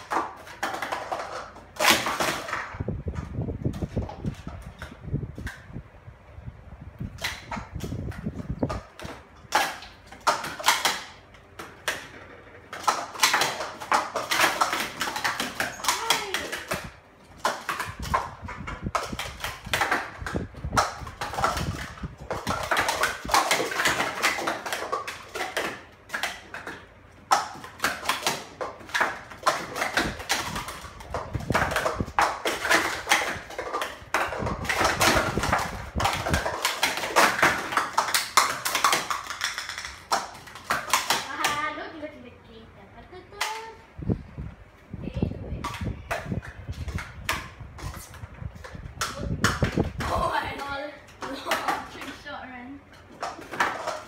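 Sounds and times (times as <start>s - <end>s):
plastic cups clattering: 0.0s - 5.6s, 7.1s - 41.8s, 45.6s - 54.0s.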